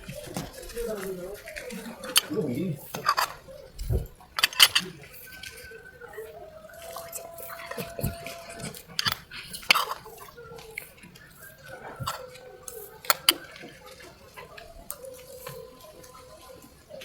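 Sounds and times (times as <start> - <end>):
cutlery and dishes clinking: 0.0 - 17.0.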